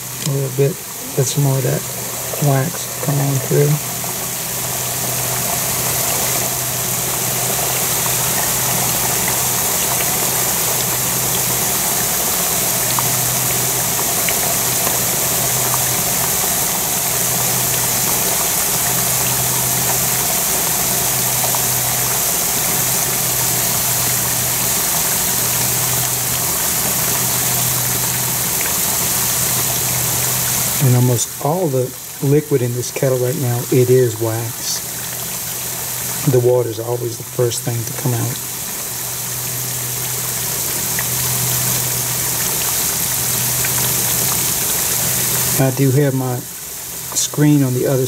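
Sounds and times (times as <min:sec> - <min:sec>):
low hum: 0:00.0 - 0:46.5
kettle boiling hard: 0:00.0 - 0:48.0.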